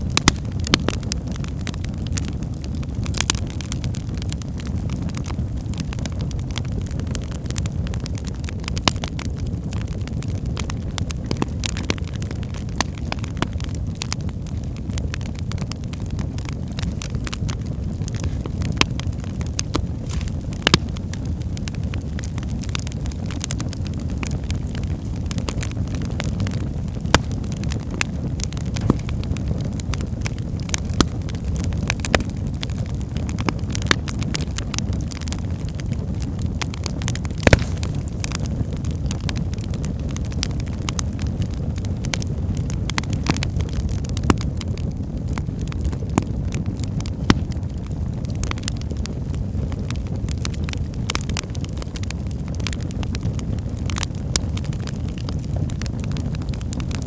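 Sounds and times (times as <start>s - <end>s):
fire burning with low rumble: 0.0s - 57.0s
logs crackling and popping: 0.0s - 57.0s.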